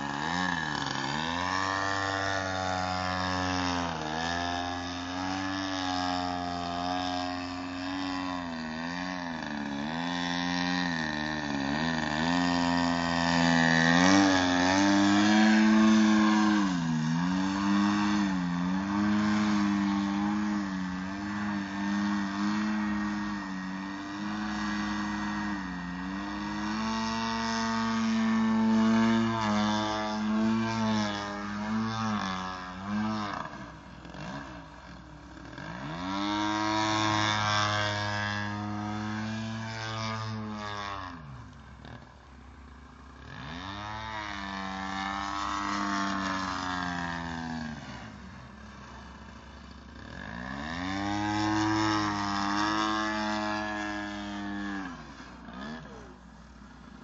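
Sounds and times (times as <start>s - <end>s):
model plane engine throttling: 0.0s - 57.0s.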